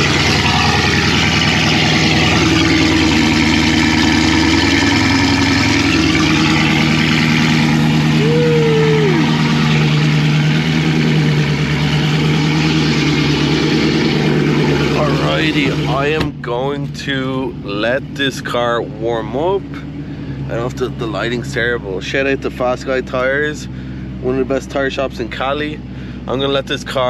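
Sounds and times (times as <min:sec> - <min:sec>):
car engine fast idle: 0:00.0 - 0:16.5, 0:19.4 - 0:27.0.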